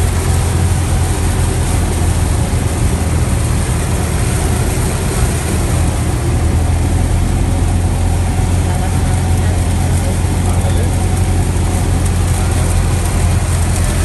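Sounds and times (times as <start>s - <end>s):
airplane piston engine droning: 0.0s - 14.0s
hiss of rain and airflow: 0.0s - 14.0s.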